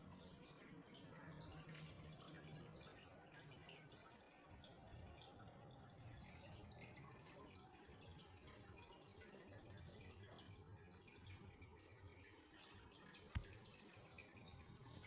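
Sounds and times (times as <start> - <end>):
faint water drips: 0.0 - 15.0.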